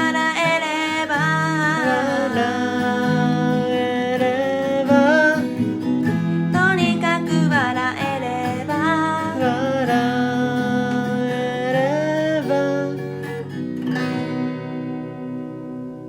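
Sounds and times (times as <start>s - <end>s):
person singing: 0.0s - 13.6s
acoustic guitar strummed: 0.0s - 16.0s.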